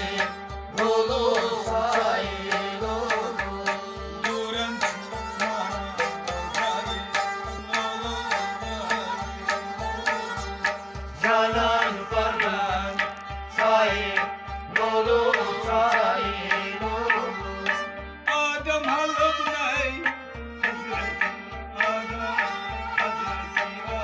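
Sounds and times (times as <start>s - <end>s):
bowed string melody: 0.0s - 24.0s.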